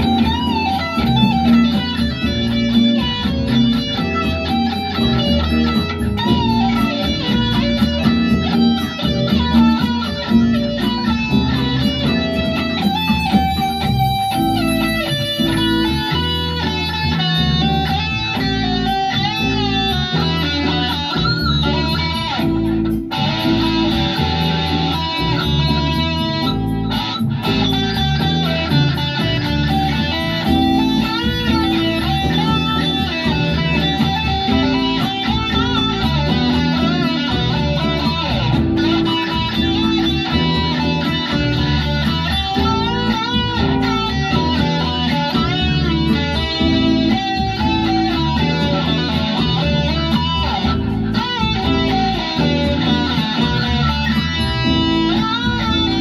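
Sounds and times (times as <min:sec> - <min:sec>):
bass: 0:00.0 - 0:56.0
electric guitar lead line: 0:00.0 - 0:56.0
steady beat: 0:00.0 - 0:56.0.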